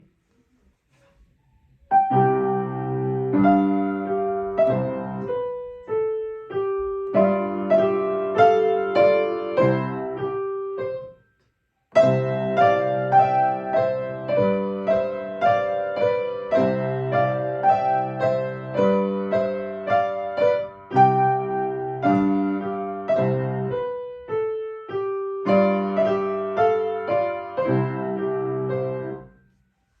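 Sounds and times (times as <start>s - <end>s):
piano chords with melody: 1.9s - 11.2s, 11.9s - 29.4s.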